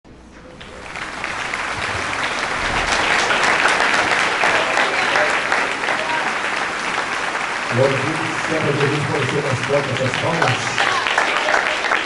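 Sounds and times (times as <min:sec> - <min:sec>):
congregation applauding: 0:00.5 - 0:12.0.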